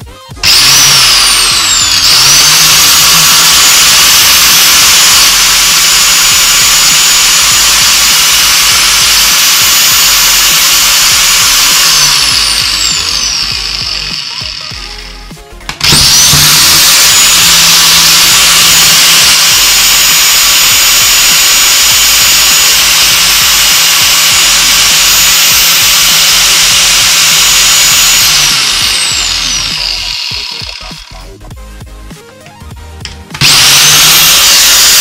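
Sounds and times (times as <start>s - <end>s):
angle grinder high-pitched whine: 0.0s - 31.4s, 33.3s - 35.0s.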